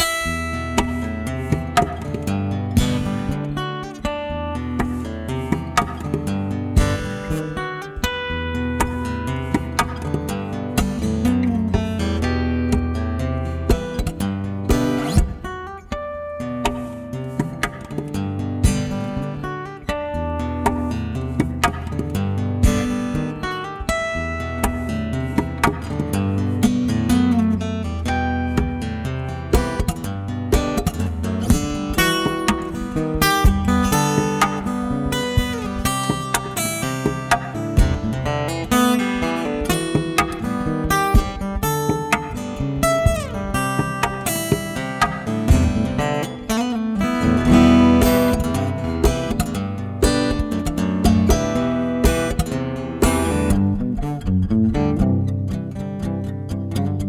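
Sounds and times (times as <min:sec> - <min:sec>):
percussive guitar taps: 0:00.0 - 0:15.9, 0:16.6 - 0:56.1
fingerstyle acoustic guitar: 0:00.0 - 0:57.0.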